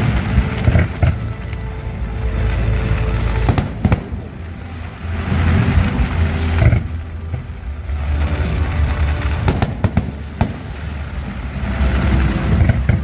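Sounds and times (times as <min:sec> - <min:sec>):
fireworks booming: 0:00.0 - 0:04.5, 0:05.1 - 0:13.0
sharp fireworks cracks: 0:00.0 - 0:13.0.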